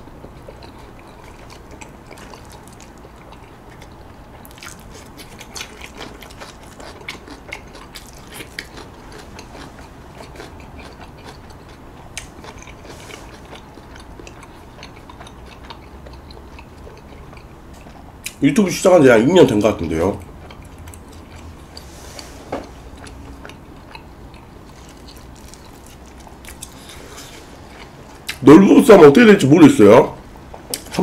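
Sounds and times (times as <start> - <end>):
person chewing with wet mouth smacks: 0.2 - 18.4, 20.2 - 21.9, 22.6 - 28.4.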